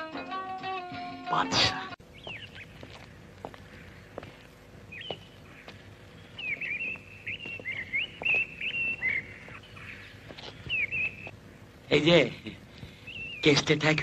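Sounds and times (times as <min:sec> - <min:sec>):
birds chirping: 0:00.6 - 0:14.0.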